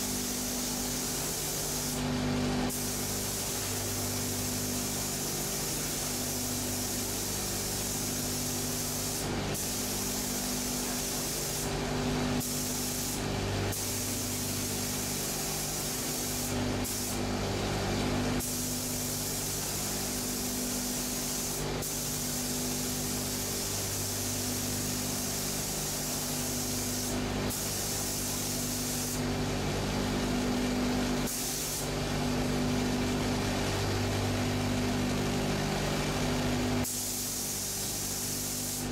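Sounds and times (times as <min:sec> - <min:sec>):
spray gun hissing: 0:00.0 - 0:29.3, 0:31.2 - 0:31.9, 0:36.8 - 0:38.9.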